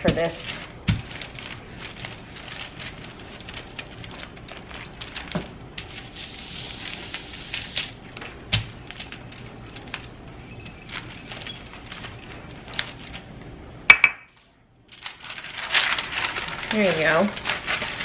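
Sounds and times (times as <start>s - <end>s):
parchment paper rustling: 0.0s - 13.6s, 14.4s - 18.0s.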